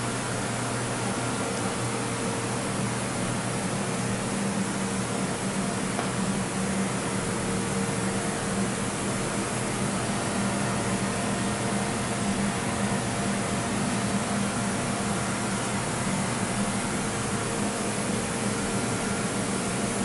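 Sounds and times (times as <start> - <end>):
fan-like hiss: 0.0 - 20.0.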